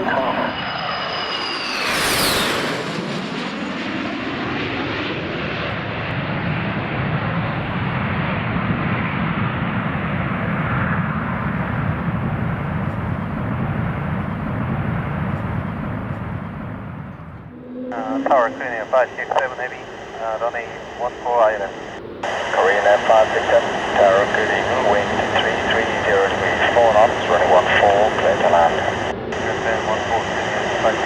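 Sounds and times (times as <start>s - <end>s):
jet airliner passing: 0.0s - 31.0s.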